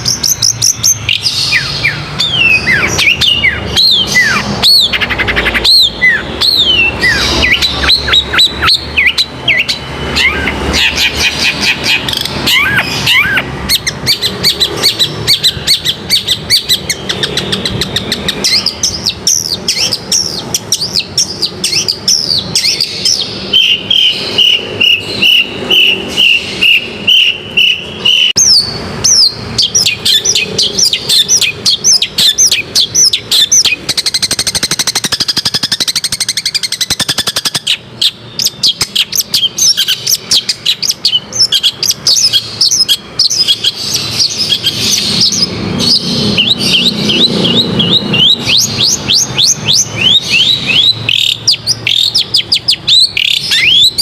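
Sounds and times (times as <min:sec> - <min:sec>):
high bird trill: 0:00.0 - 0:54.0
shrike chattering song: 0:00.0 - 0:54.0.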